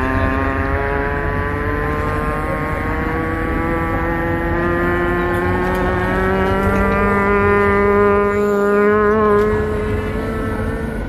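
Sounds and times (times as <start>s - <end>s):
electric train motor whine: 0.0s - 11.0s
low running rumble: 0.0s - 11.0s.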